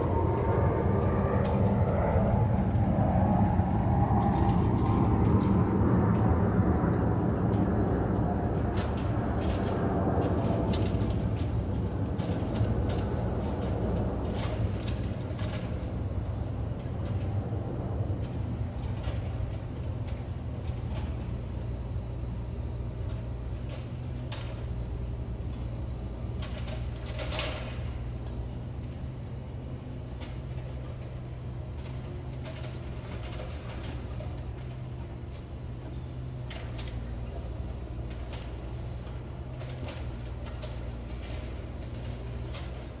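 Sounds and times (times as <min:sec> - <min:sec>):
jet engine rumble overhead: 0:00.0 - 0:43.0.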